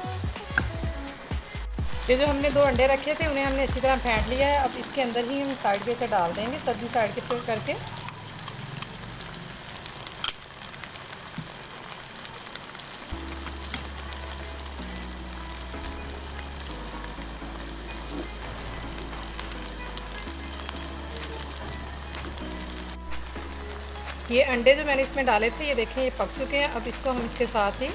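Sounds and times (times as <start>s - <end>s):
low background music: 0.0s - 8.6s, 13.1s - 27.9s
food sizzling in hot oil: 0.0s - 27.9s
spatula working in wok: 1.8s - 27.9s.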